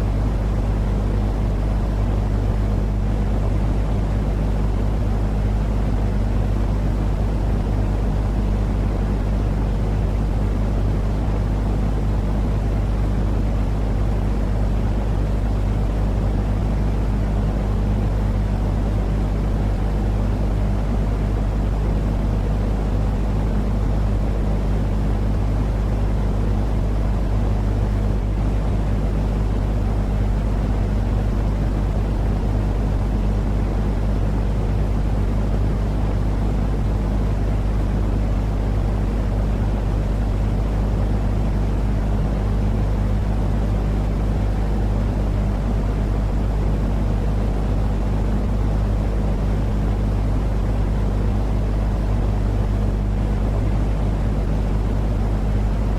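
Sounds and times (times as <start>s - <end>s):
deep rumbling white noise: 0.0s - 55.9s.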